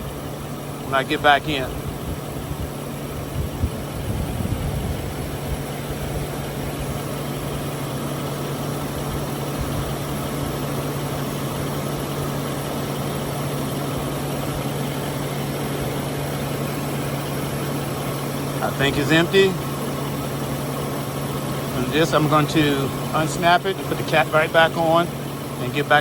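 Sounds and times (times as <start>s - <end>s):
air conditioning hum: 0.0s - 26.0s
car engine idling: 0.0s - 26.0s.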